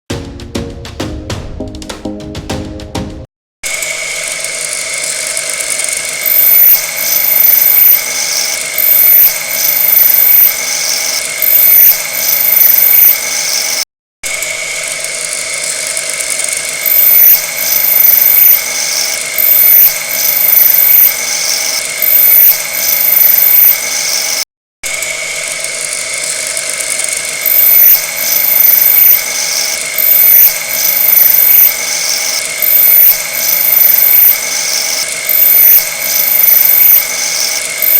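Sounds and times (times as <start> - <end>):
high-pitched screech: 3.6 - 37.9
machine tool cutting metal: 3.6 - 37.9.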